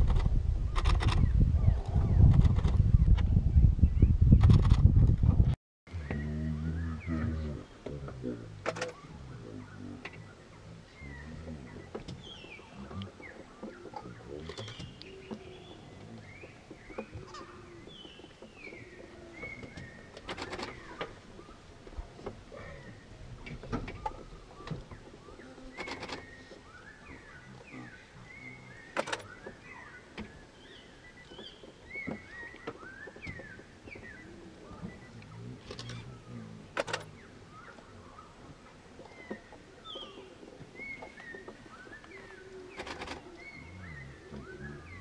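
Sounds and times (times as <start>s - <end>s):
faint low murmur: 5.9s - 20.1s, 20.7s - 31.0s, 33.4s - 45.0s.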